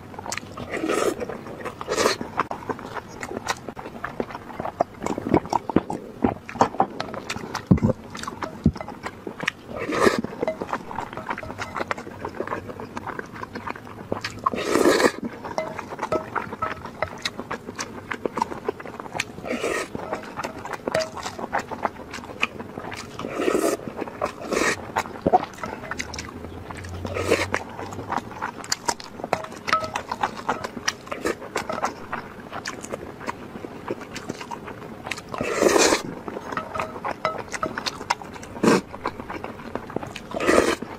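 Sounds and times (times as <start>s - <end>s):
slurping: 0.0s - 40.9s
wet chewing and lip-smacking: 0.0s - 40.9s.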